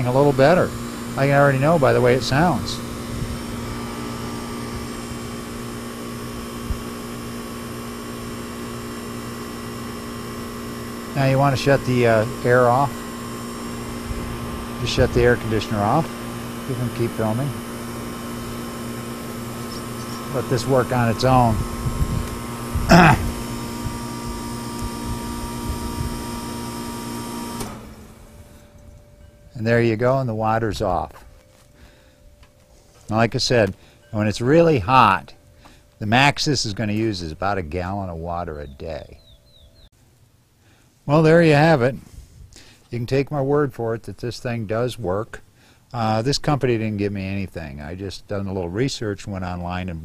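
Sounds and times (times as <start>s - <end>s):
air conditioner unit humming: 0.0s - 50.0s.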